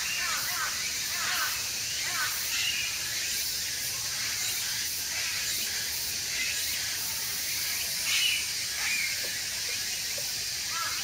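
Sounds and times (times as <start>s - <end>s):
outdoor ambience hiss: 0.0s - 11.0s.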